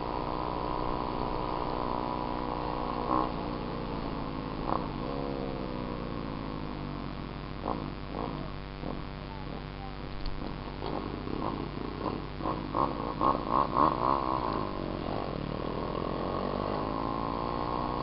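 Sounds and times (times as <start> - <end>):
dirt bike engine idling: 0.0 - 18.0.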